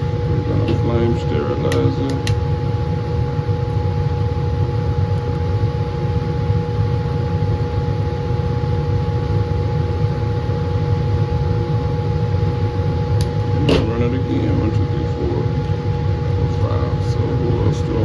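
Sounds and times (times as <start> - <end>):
blower roaring air: 0.0 - 18.0
constant hum tone: 0.0 - 18.0.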